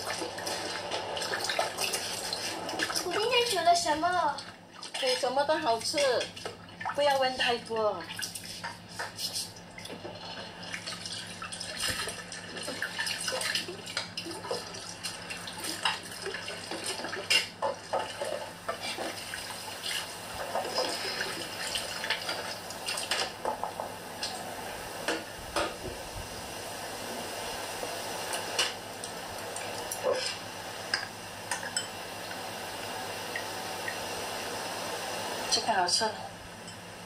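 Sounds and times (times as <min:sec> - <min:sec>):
tap water running: 0:00.0 - 0:36.8.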